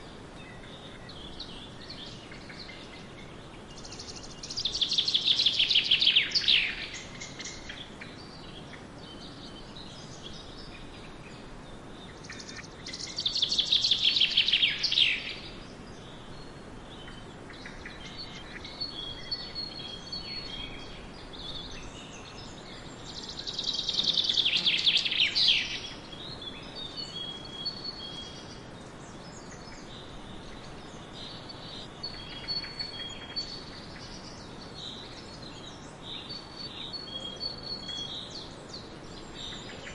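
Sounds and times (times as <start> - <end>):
bird singing: 0.0 - 39.9
outdoor background noise: 0.0 - 39.9.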